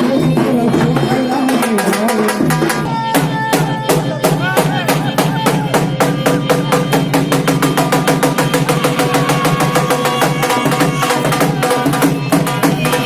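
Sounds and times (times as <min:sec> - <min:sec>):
fast hand-drum beat: 0:00.0 - 0:13.0.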